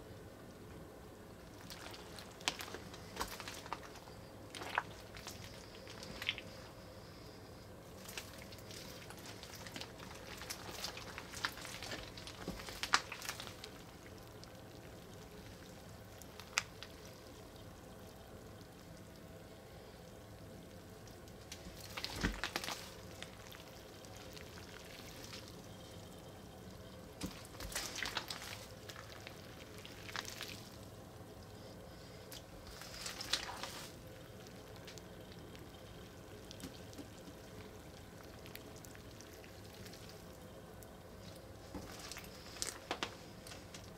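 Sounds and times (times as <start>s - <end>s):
slime squelching and crackling: 1.4s - 43.9s.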